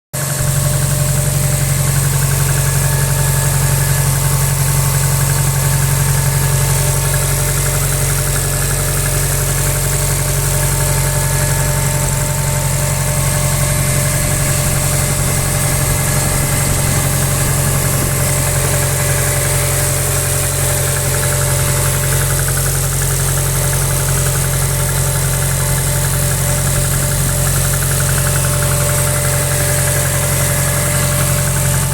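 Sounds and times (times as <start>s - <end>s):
car engine idling with knock: 0.1s - 31.9s.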